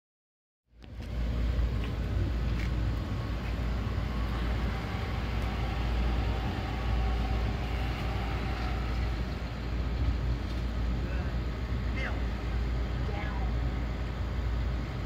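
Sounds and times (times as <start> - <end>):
low rumble of traffic: 0.7 - 15.0.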